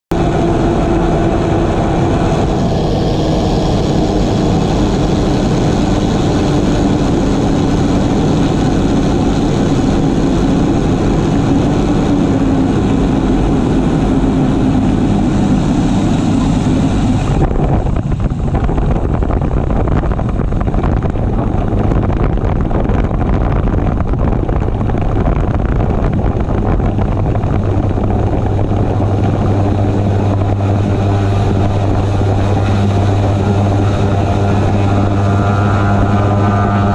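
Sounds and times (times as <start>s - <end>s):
propeller aircraft engine droning: 0.0s - 36.9s
steady low hum: 0.1s - 36.9s.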